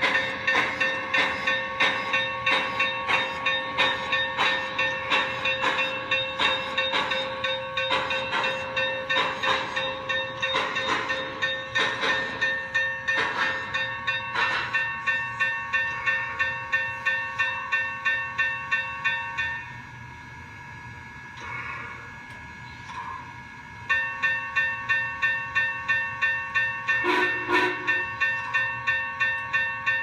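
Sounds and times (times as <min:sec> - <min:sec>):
model steam locomotive chuffing: 0:00.0 - 0:30.0.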